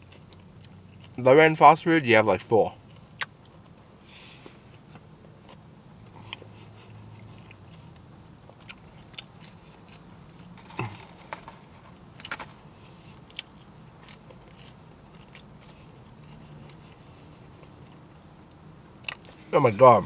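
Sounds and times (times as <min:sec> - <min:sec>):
person chewing fries: 0:00.0 - 0:01.2, 0:02.8 - 0:19.4
low steady hum: 0:00.0 - 0:20.0.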